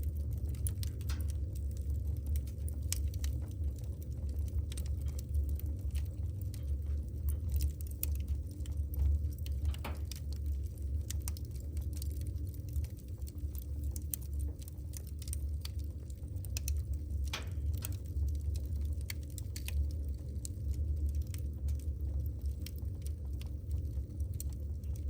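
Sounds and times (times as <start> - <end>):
low rumble of flames: 0.0 - 25.0.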